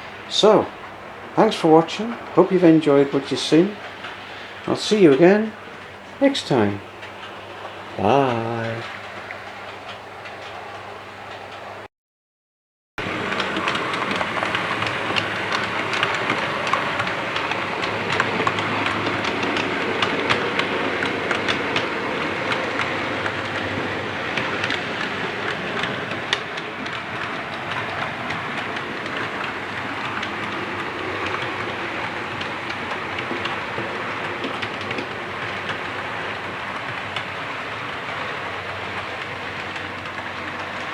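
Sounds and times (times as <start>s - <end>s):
model train rumbling along track: 0.0s - 11.9s, 13.0s - 40.9s
wheels clicking over rail joints: 0.0s - 11.9s, 13.0s - 40.9s.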